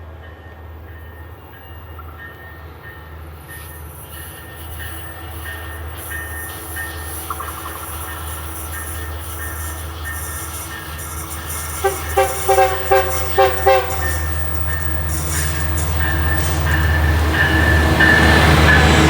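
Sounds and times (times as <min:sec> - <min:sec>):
diesel locomotive engine rumble: 0:00.0 - 0:19.0
train wheels on rails: 0:00.0 - 0:19.0.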